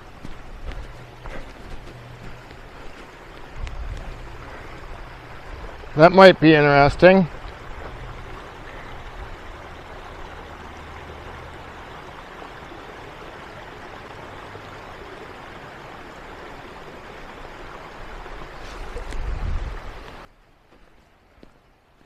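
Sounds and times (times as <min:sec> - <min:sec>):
creek water rushing over rocks: 0:00.0 - 0:22.0.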